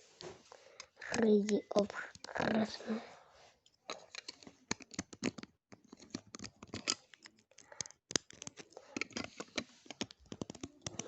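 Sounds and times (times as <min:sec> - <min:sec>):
plastic bricks clicking: 0:00.8 - 0:02.6, 0:03.9 - 0:11.0.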